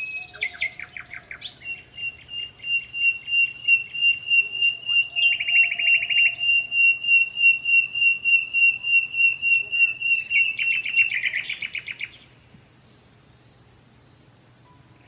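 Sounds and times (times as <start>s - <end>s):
bird pulsing and trilling: 0.0s - 12.9s.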